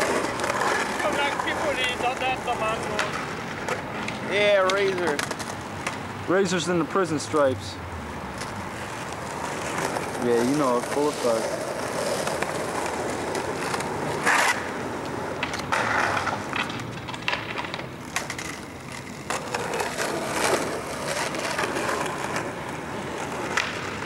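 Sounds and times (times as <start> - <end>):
skateboard clacking on ground: 0.0 - 6.1, 8.3 - 24.0
skateboard wheels rolling on pavement: 0.0 - 24.0.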